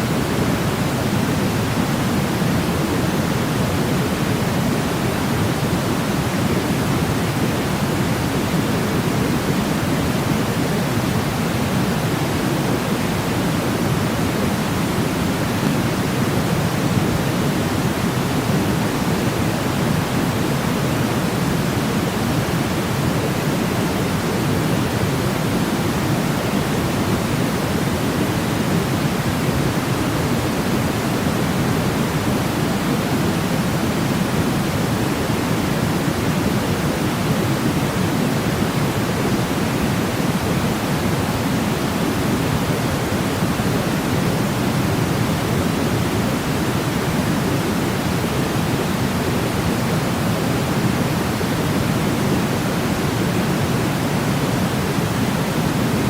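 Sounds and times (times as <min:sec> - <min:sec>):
white noise rush: 0:00.0 - 0:56.0.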